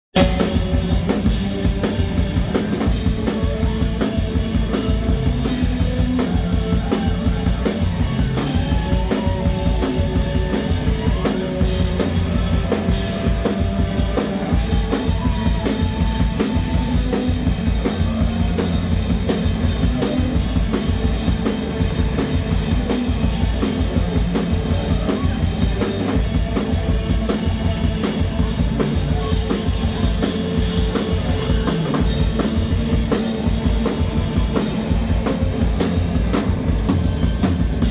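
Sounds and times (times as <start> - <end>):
drum kit beat: 0.1 - 37.9
rock band playing: 0.1 - 37.9.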